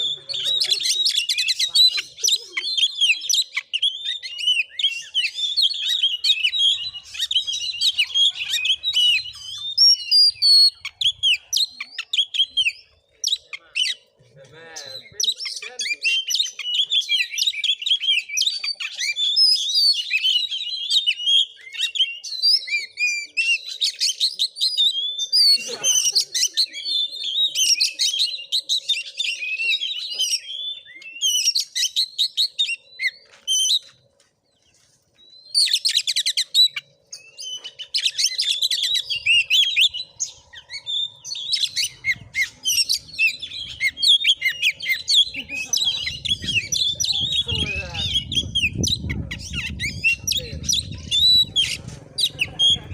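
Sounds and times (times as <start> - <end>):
songbird singing chirps and trills: 0.0 - 52.9.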